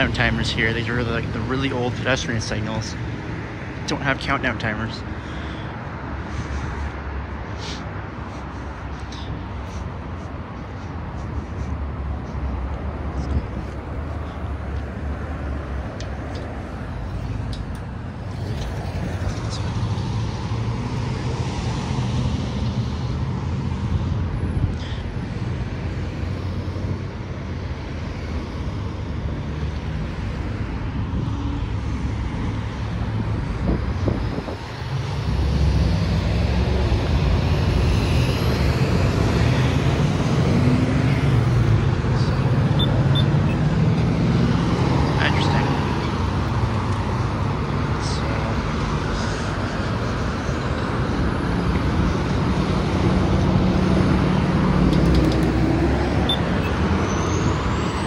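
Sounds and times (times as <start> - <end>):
highway traffic rumble: 0.0 - 58.0.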